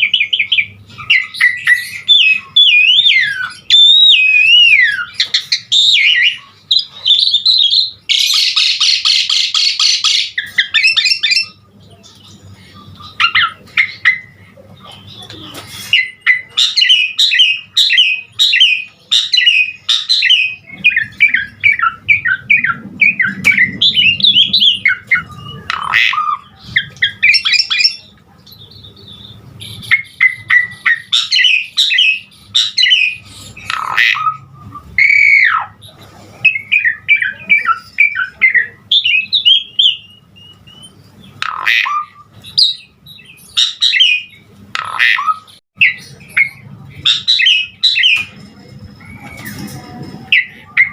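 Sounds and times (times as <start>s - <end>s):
starling singing and chattering: 0.0s - 50.9s.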